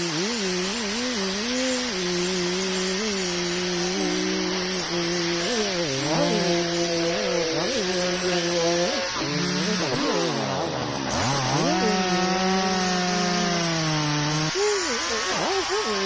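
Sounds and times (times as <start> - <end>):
chainsaw cutting at high revs: 0.0 - 16.0.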